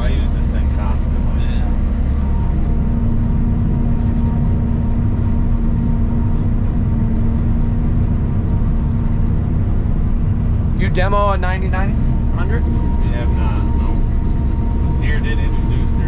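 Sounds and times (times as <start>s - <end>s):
forage harvester engine rumble: 0.0s - 16.0s.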